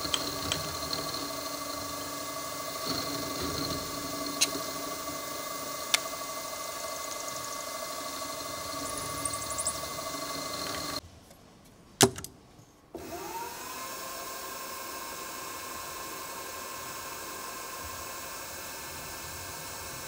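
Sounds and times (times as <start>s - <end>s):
electric motor whining: 0.0s - 11.0s, 13.0s - 20.0s.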